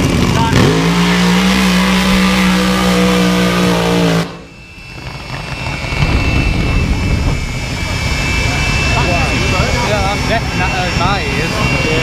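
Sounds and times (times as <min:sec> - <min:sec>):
drag racing engine at full throttle: 0:00.0 - 0:12.0
low rough rumble: 0:00.0 - 0:12.0.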